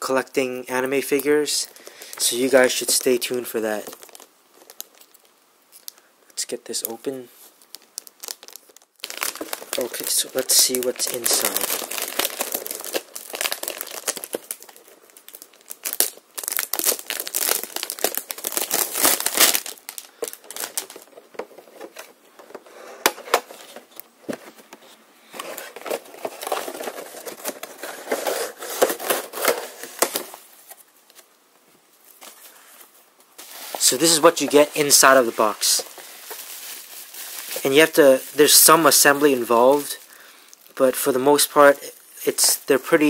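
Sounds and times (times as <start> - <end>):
packaging crinkling and tearing: 1.2 - 6.0, 6.8 - 22.6, 25.3 - 31.3, 33.4 - 41.7.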